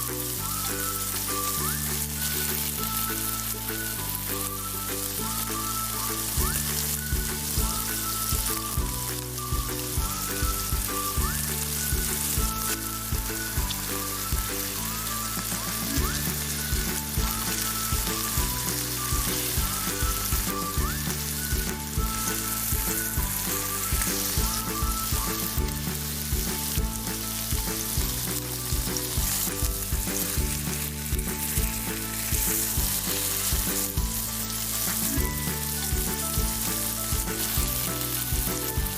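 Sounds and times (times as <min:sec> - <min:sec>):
background music: 0:00.0 - 0:38.9
food sizzling in a pan: 0:00.0 - 0:38.9.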